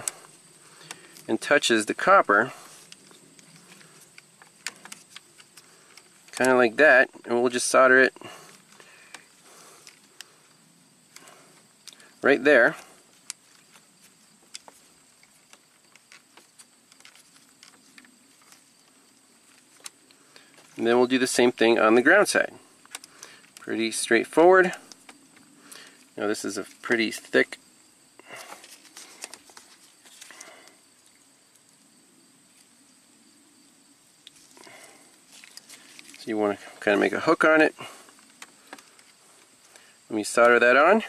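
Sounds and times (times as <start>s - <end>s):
light clicks of handling wires: 0.0s - 6.8s, 8.2s - 21.7s, 22.3s - 23.8s, 24.4s - 27.6s, 28.2s - 31.9s, 34.2s - 40.7s
faint high-pitched hiss: 0.0s - 41.0s.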